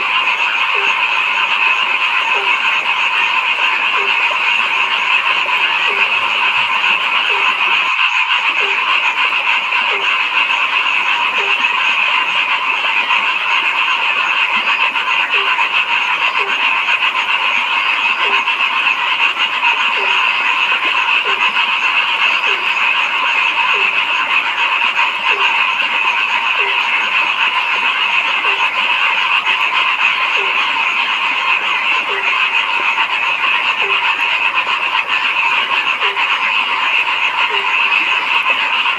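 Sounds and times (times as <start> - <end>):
chorus of frogs trilling: 0.0 - 38.9
lower-pitched frog call: 0.0 - 38.9.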